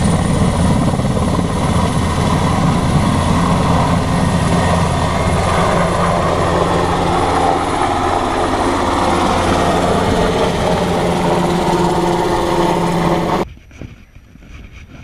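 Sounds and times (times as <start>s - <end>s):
helicopter flying low overhead: 0.0s - 13.5s.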